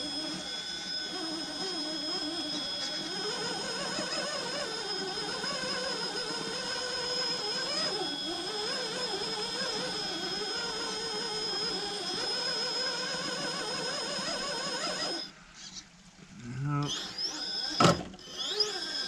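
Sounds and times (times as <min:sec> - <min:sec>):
electric motor whining: 0:00.0 - 0:15.3, 0:16.7 - 0:19.0
high electronic whine: 0:00.0 - 0:15.3.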